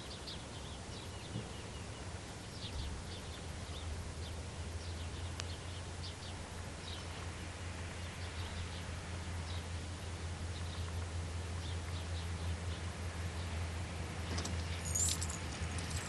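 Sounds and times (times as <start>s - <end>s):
low hum and hiss: 0.0s - 16.0s
small birds chirping: 0.0s - 16.0s.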